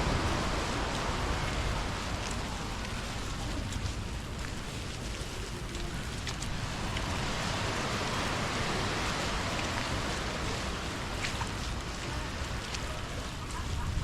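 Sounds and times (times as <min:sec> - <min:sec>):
heavy rain falling: 0:00.0 - 0:14.0
sharp raindrop ticks: 0:00.0 - 0:14.0.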